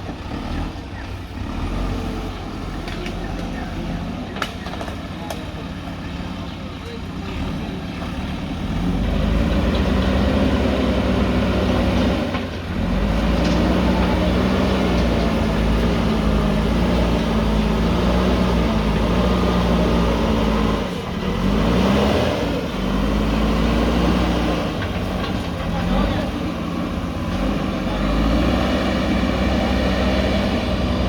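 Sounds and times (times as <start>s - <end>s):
diesel engine under load: 0.0s - 31.0s.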